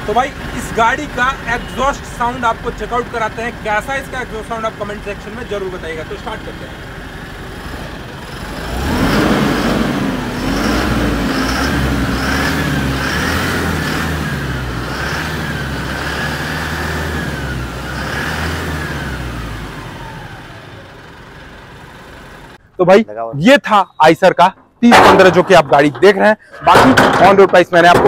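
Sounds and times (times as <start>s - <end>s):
diesel truck engine revving: 0.0s - 22.6s.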